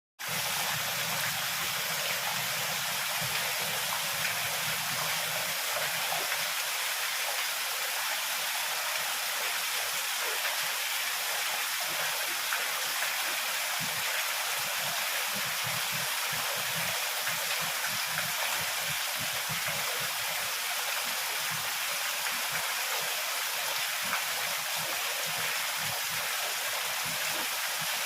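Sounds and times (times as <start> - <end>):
heavy rain falling: 0.2 - 28.0.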